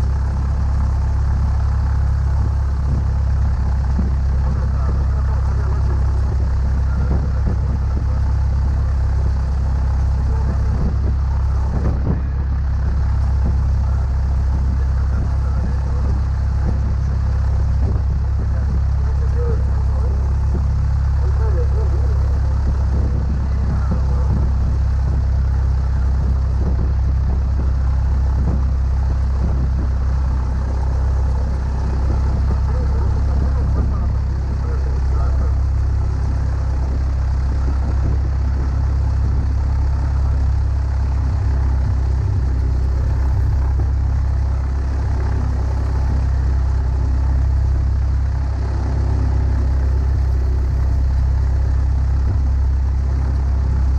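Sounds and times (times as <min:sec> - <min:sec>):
propeller plane engine droning: 0:00.0 - 0:53.9.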